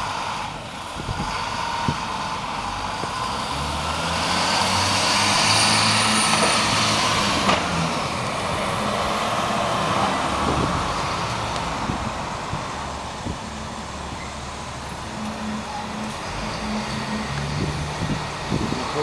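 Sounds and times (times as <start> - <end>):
bus diesel engine passing: 0.0 - 19.0.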